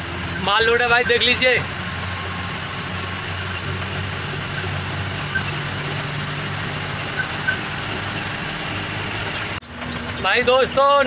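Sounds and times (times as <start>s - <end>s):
road noise: 0.0s - 11.0s
truck diesel engine running: 0.0s - 11.0s.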